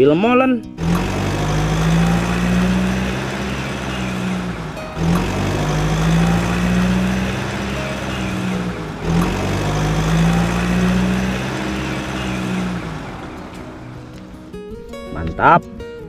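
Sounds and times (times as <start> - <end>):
truck engine idling: 0.8 - 14.6.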